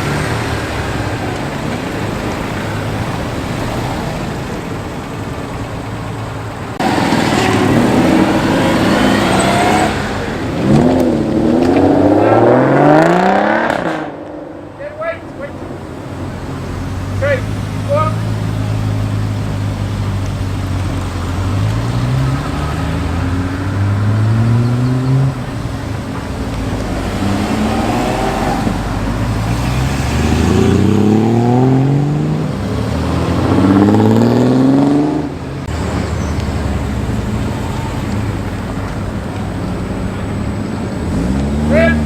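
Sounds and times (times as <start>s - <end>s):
cars accelerating: 0.0s - 42.0s.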